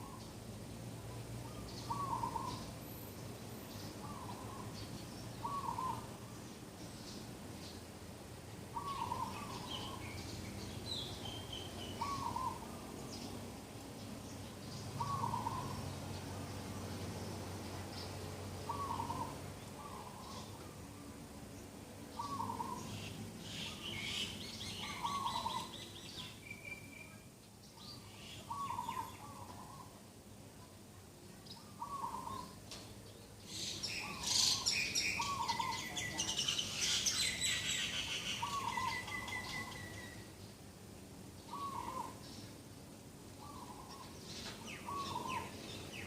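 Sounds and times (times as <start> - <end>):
birds chirping and trilling: 1.1 - 8.0, 8.6 - 30.1, 31.4 - 40.7, 41.3 - 46.0.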